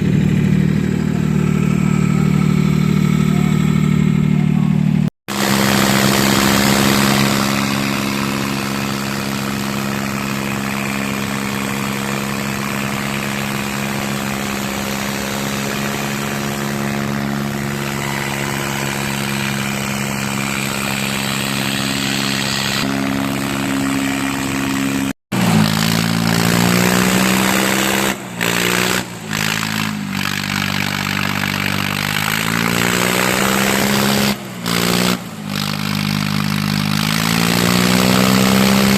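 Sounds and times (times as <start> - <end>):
tractor engines droning: 0.0 - 38.9.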